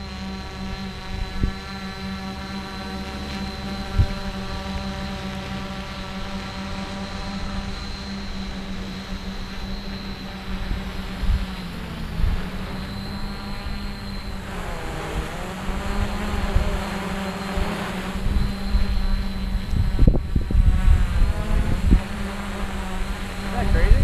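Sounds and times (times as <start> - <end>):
quadcopter propellers humming: 0.0 - 24.0.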